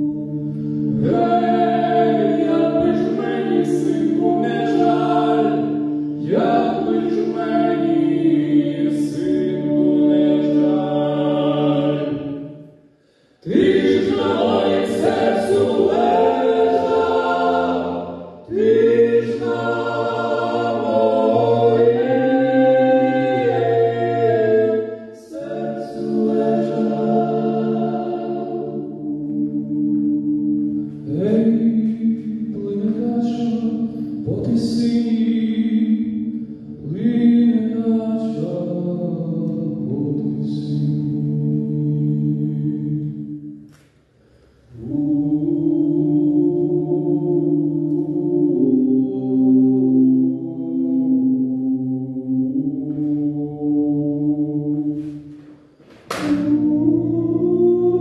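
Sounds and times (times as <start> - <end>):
choir singing: 0.0 - 12.6, 13.4 - 43.7, 44.7 - 58.0.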